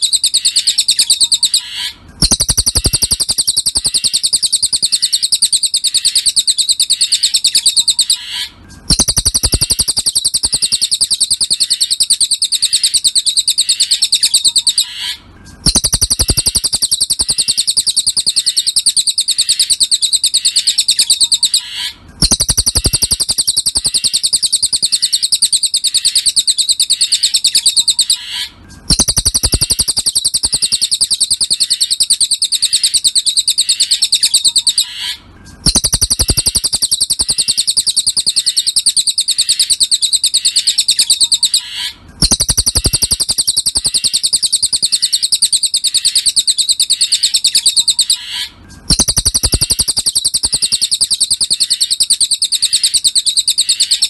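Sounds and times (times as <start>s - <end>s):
bird song of rapid trills: 0.0s - 54.0s.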